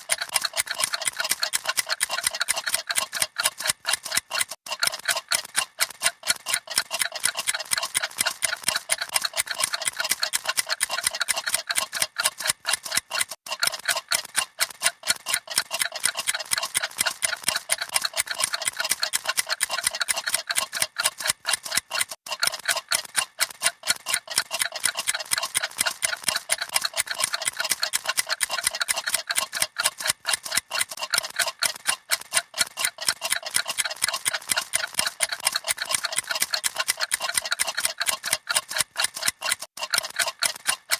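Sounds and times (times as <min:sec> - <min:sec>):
clocks ticking: 0:00.0 - 0:40.9.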